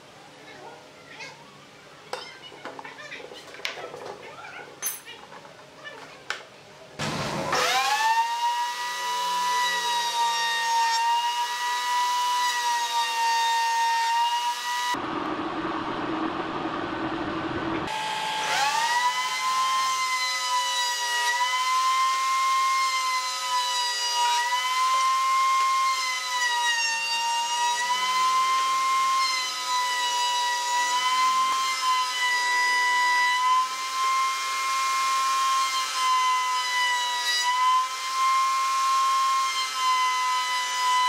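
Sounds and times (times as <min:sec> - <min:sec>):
wood router whining: 0:07.0 - 0:16.8, 0:17.4 - 0:41.0.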